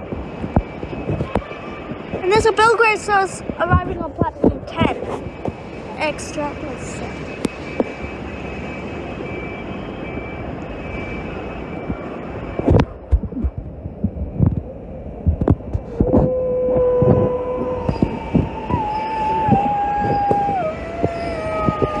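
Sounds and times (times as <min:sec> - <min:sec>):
train rumble: 0:00.0 - 0:08.3, 0:08.9 - 0:22.0
steady high whine: 0:00.0 - 0:22.0.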